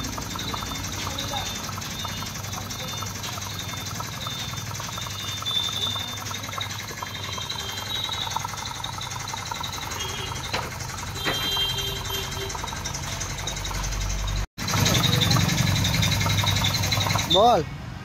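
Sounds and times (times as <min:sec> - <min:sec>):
low machine hum: 0:00.0 - 0:17.4.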